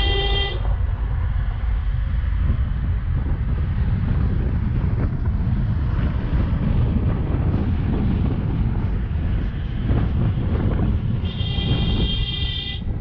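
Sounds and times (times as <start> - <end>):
tyres and engine rumble: 0.0 - 13.0
wind buffeting microphone: 0.0 - 13.0.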